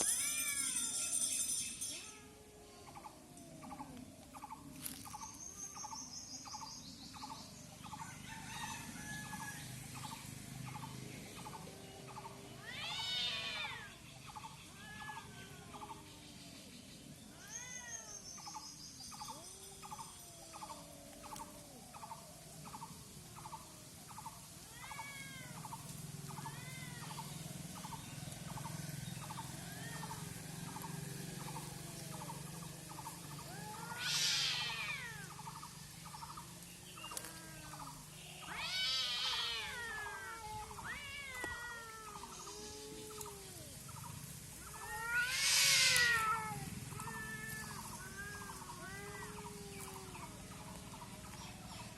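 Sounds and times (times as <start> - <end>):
cats yowling in a fight: 0.0 - 5.2, 10.8 - 16.5, 17.2 - 18.6, 19.2 - 51.9.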